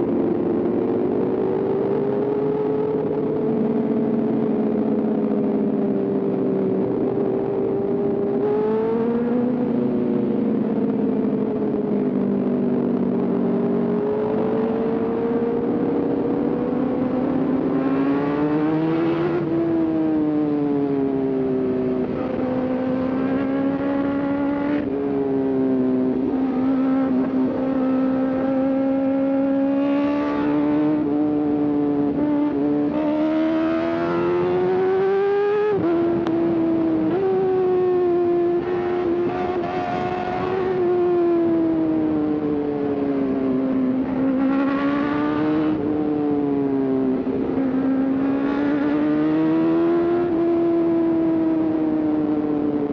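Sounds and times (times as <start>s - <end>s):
motorcycle engine accelerating: 0.0s - 52.9s
wind and road noise: 0.0s - 52.9s.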